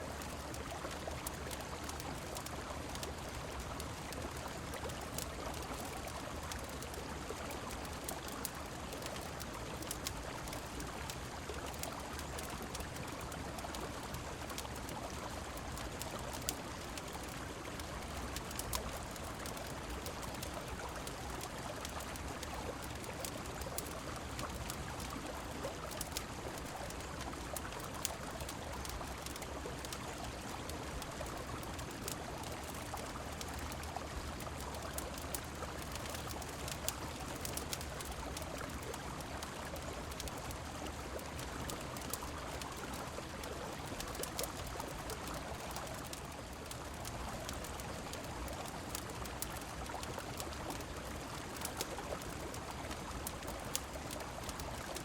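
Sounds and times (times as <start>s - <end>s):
rain: 0.0s - 55.0s
wood fire crackling: 0.0s - 55.0s.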